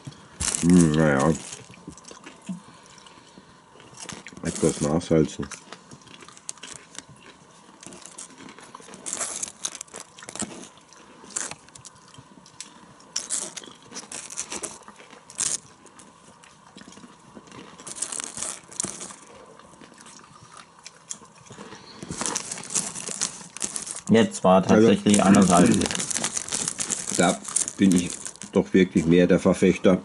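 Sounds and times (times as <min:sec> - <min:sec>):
foil bag crinkling: 0:00.0 - 0:02.9, 0:03.8 - 0:16.3, 0:16.9 - 0:20.5, 0:21.2 - 0:29.6
person chewing popcorn: 0:00.0 - 0:29.2.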